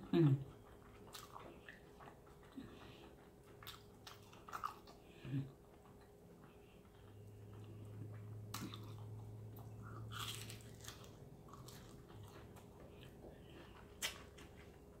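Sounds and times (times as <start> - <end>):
chewing crunchy fried food: 0.0 - 15.0
low hum: 0.0 - 15.0.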